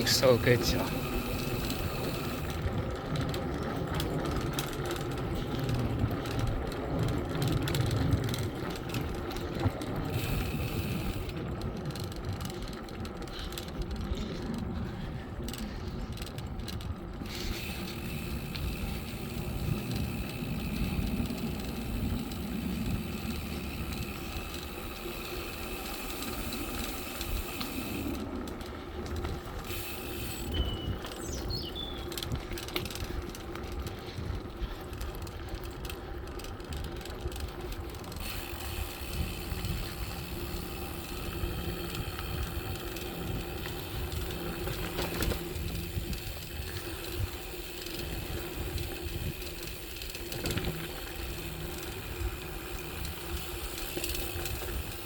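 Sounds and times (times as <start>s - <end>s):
bicycle tyre and drivetrain noise: 0.0s - 55.0s
wind rumbling on microphone: 0.0s - 55.0s.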